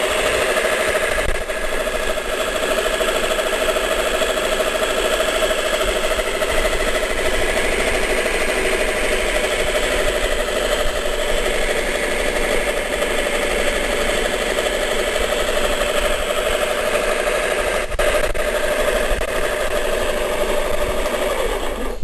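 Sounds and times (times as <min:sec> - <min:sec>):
scroll saw buzzing: 0:00.0 - 0:22.0.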